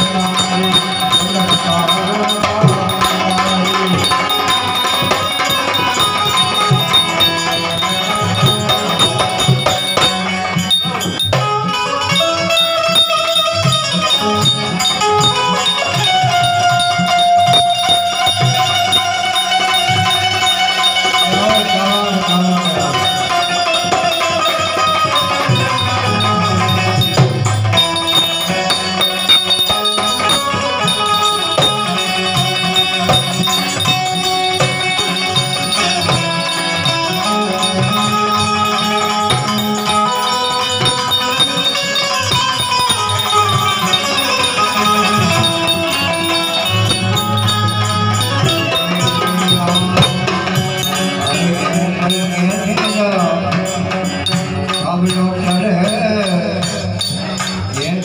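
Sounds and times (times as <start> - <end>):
harmonium playing devotional melody: 0.0 - 58.0
rhythmic rattling percussion: 0.0 - 58.0.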